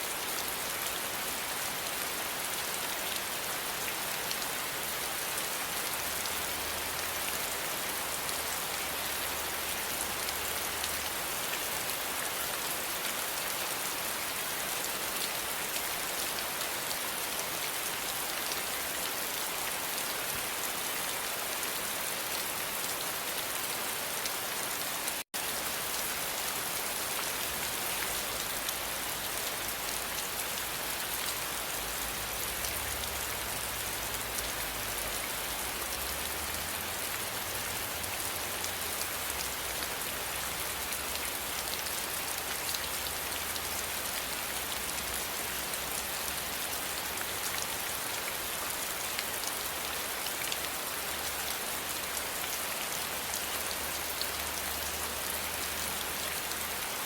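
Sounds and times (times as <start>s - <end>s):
steady rain patter: 0.0s - 57.0s.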